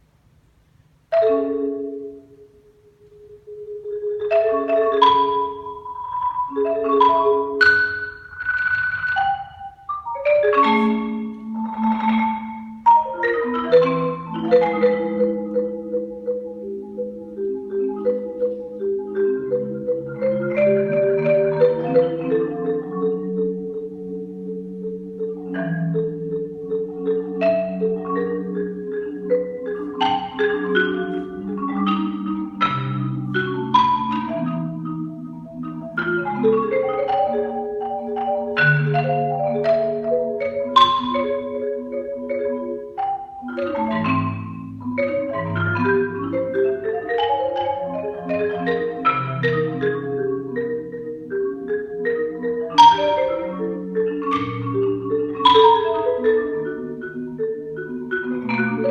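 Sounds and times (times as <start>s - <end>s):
solo marimba playing: 0.7s - 58.9s.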